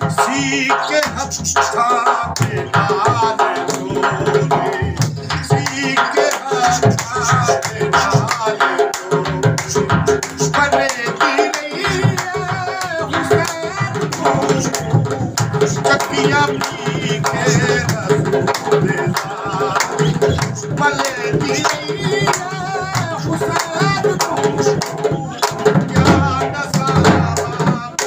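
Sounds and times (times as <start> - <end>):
drum beats: 0.0 - 28.0
man singing: 0.0 - 28.0
rhythmic hand clapping: 0.8 - 28.0.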